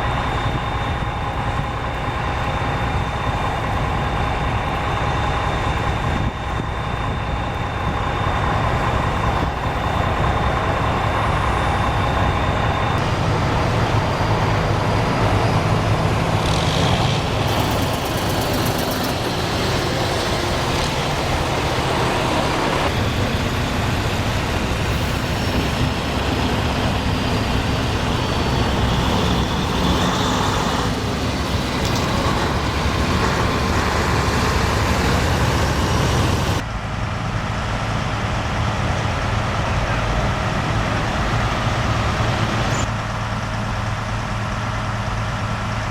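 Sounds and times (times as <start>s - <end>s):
vehicle and road noise: 0.0s - 45.9s.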